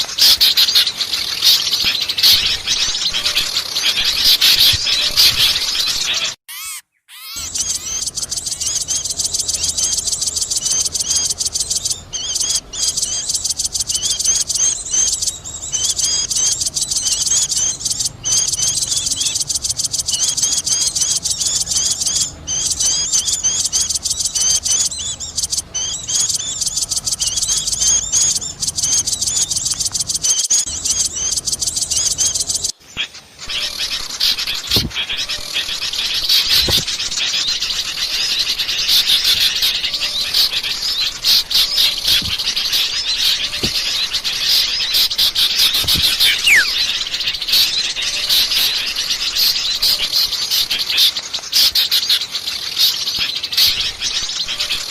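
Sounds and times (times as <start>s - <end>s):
small birds chirping chorus: 0.0s - 54.9s.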